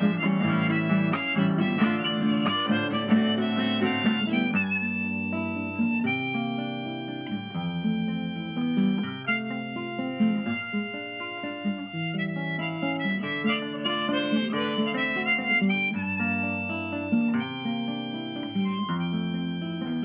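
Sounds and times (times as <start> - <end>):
classical guitar: 0.0 - 20.0
harmonica melody: 0.0 - 20.0.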